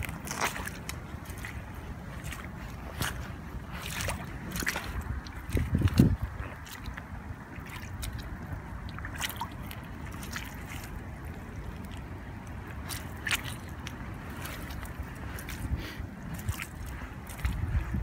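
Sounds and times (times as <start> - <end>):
footsteps squelching through mud: 0.0 - 18.0.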